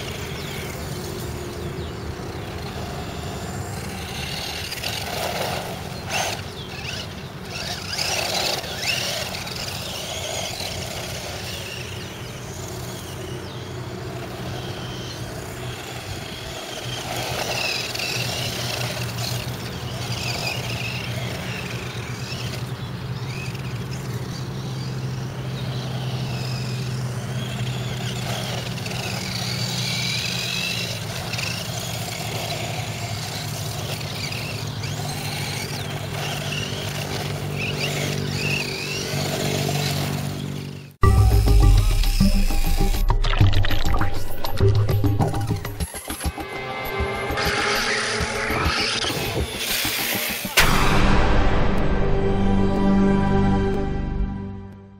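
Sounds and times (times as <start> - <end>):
electric motor whining: 0.0 - 43.2, 44.2 - 50.7.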